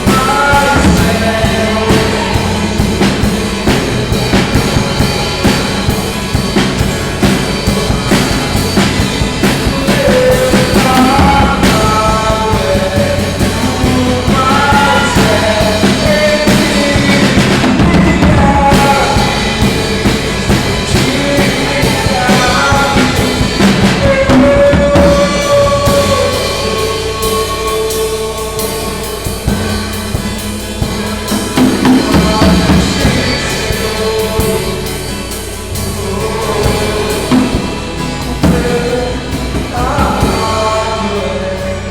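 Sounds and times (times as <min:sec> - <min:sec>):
acoustic guitar: 0:00.0 - 0:41.9
drum kit beat: 0:00.0 - 0:41.9
person singing: 0:00.0 - 0:41.9.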